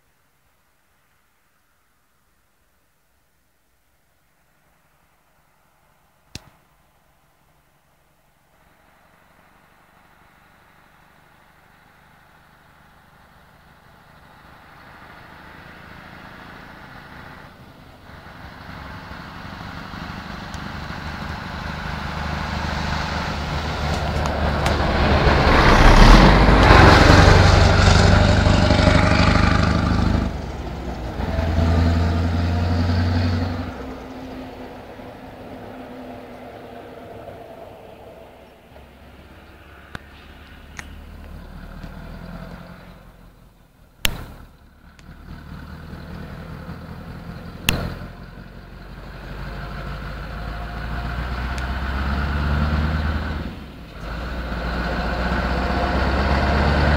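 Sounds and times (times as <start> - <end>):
truck engine passing: 8.6 - 56.9.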